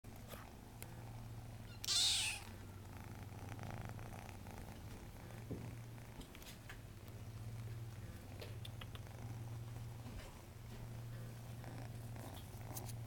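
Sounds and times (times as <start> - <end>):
kitten purring: 0.1 - 13.0.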